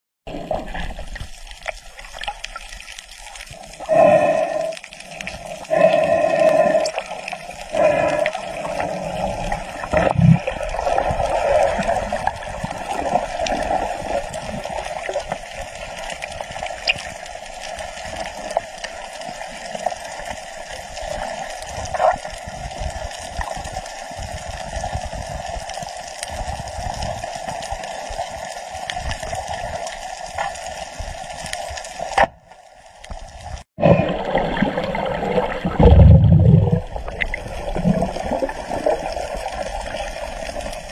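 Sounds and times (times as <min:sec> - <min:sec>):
underwater rushing and bubbling: 0:00.3 - 0:40.9.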